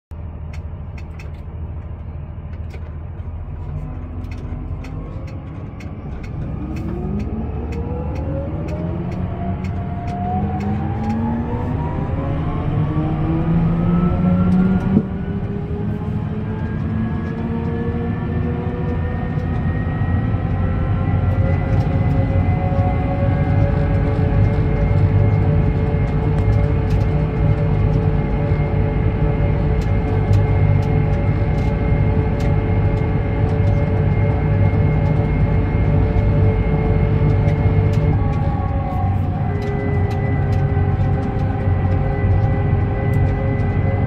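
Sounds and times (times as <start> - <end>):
diesel engine rumble: 0.1 - 44.0
driveline whine rising: 3.8 - 44.0.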